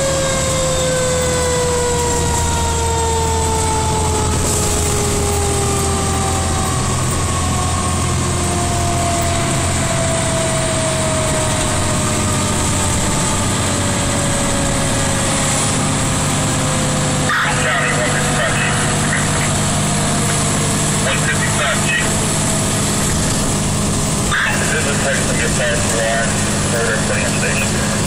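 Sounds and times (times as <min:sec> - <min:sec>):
truck engine drone from inside cab: 0:00.0 - 0:28.0.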